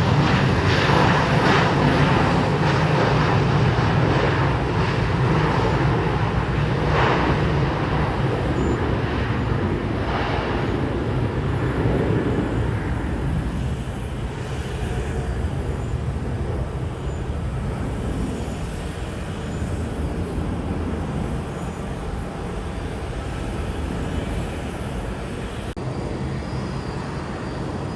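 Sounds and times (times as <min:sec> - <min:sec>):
jet engine rumble: 0:00.0 - 0:27.9.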